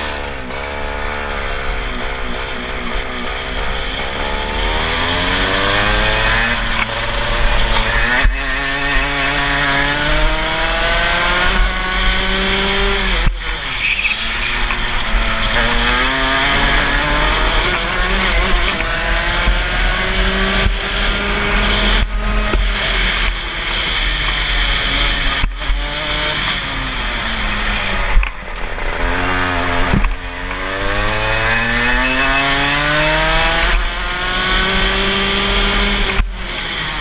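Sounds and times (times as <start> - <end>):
two-stroke kart engine revving: 0.0 - 37.0.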